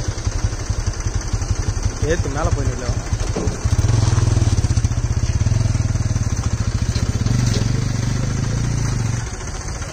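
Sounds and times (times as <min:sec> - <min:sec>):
tractor diesel engine chugging: 0:00.0 - 0:09.9.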